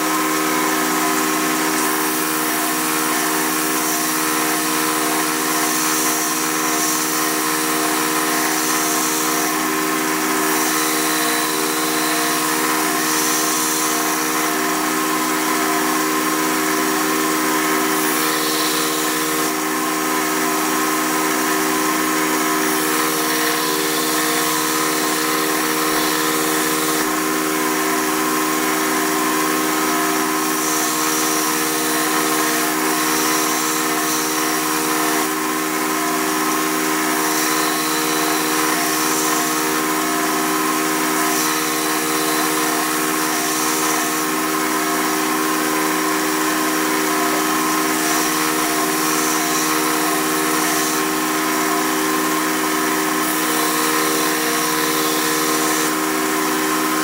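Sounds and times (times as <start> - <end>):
belt grinder motor humming: 0.0 - 57.0.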